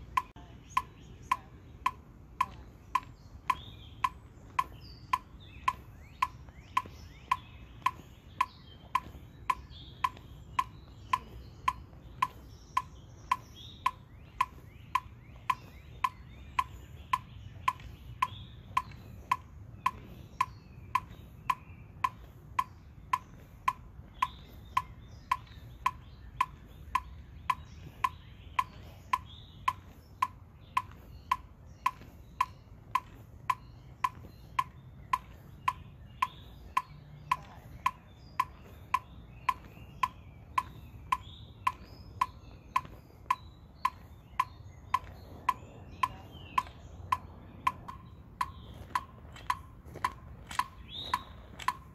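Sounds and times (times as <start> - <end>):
electronic metronome clicking: 0.0 - 51.9.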